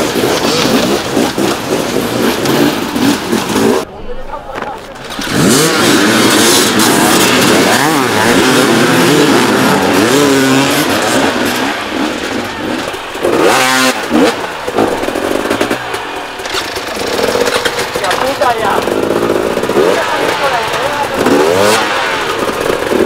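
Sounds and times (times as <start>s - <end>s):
motorcycle engine revving: 0.0s - 3.9s, 4.6s - 23.0s.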